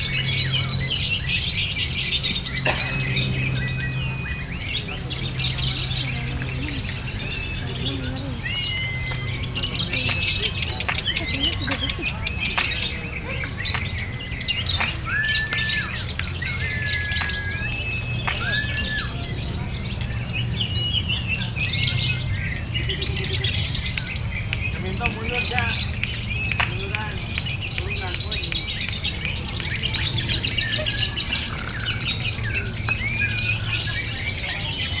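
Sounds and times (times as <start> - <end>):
long whistled bird notes: 0.0 - 11.3, 12.2 - 35.0
lovebirds chirping: 0.0 - 35.0.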